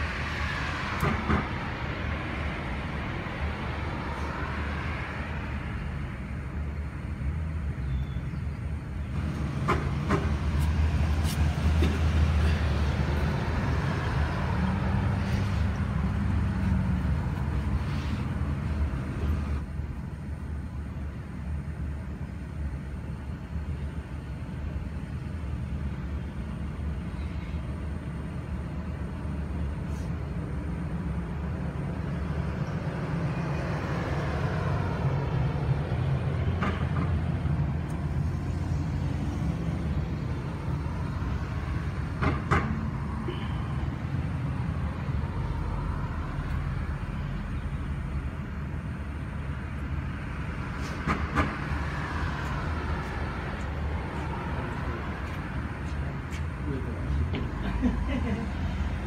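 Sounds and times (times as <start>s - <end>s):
road traffic rumble: 0.0s - 59.0s
vehicles passing: 0.0s - 59.0s.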